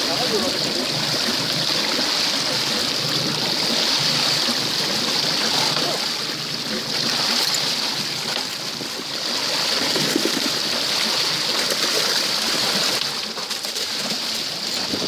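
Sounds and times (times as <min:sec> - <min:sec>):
water rushing along boat hull: 0:00.0 - 0:15.0.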